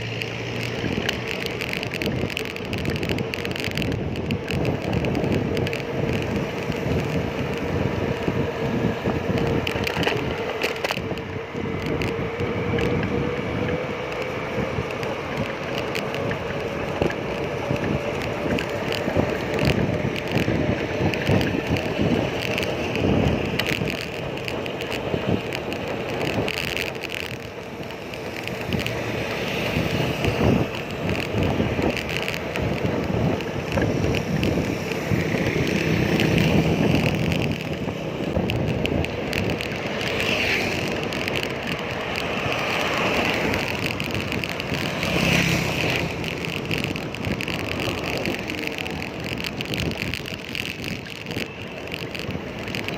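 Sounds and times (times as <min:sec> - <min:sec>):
bicycle road noise: 0:00.0 - 0:52.9
motor traffic drone: 0:00.0 - 0:52.9
small rattles and clicks: 0:00.0 - 0:52.9
wind buffeting microphone: 0:00.0 - 0:52.9.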